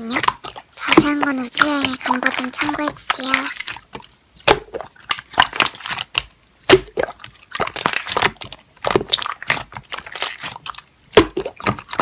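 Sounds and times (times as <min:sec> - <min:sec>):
slime squishing and popping: 0:00.0 - 0:12.0.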